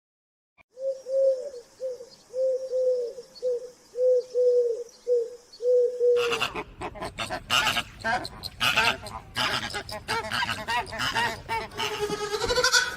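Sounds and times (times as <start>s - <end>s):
bird cooing: 0.7s - 12.1s.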